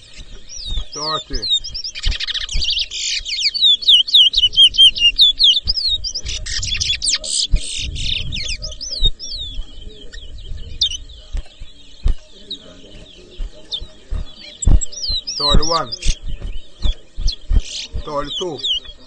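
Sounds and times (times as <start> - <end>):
finches singing whistled trills: 0.0 - 19.0.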